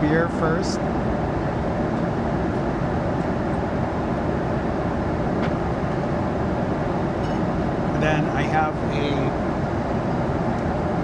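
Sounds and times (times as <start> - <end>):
airliner cabin jet engine rumble: 0.0 - 11.0.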